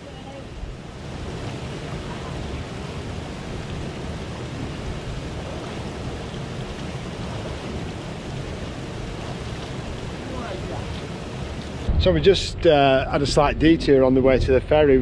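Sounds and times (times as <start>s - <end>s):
river rushing over stones: 0.0s - 12.2s.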